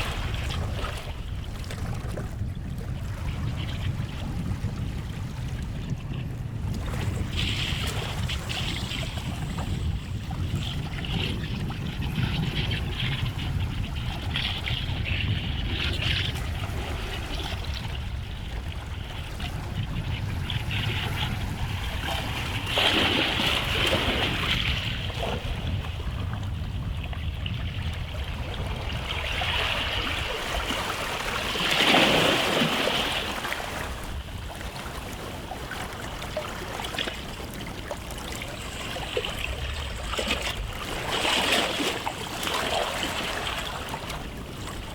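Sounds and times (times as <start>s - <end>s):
waves washing onto a beach: 0.0s - 44.9s.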